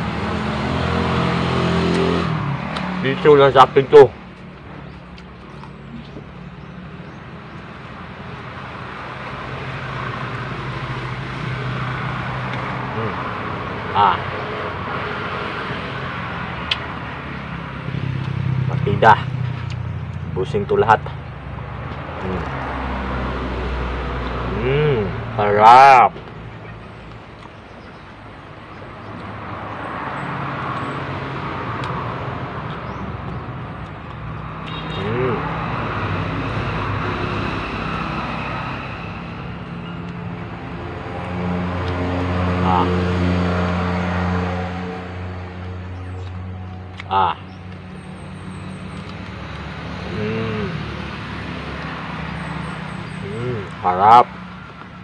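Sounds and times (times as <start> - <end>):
vehicle engine humming: 0.0 - 55.0.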